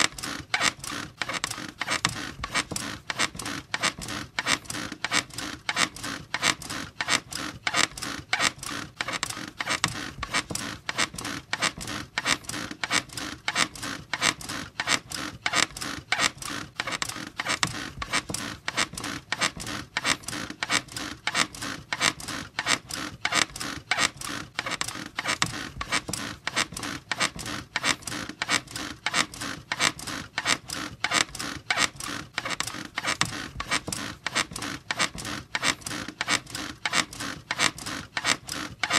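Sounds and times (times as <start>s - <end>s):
bed squeaking rhythmically: 0.0s - 38.9s.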